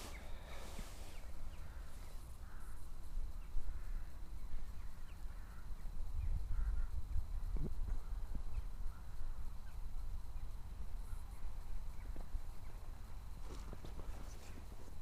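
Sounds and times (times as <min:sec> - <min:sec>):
distant bird calls: 0:00.0 - 0:15.0
wind rumble on microphone: 0:00.0 - 0:15.0.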